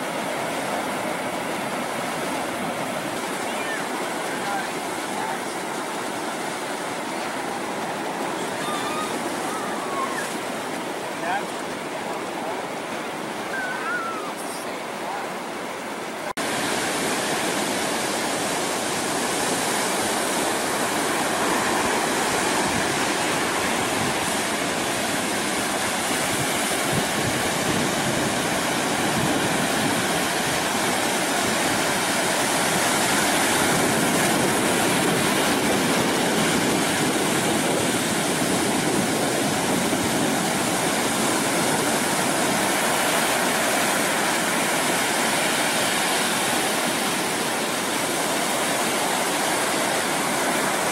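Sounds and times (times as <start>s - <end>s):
ocean surf rushing: 0.0s - 50.9s.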